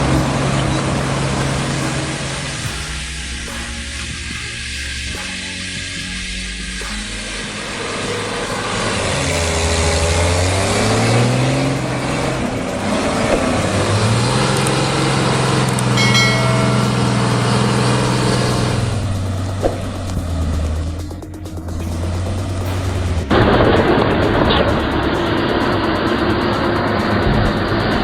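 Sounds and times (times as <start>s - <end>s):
heavy vehicle engine revving: 0.0s - 28.0s
high-pitched squeal: 0.0s - 28.0s.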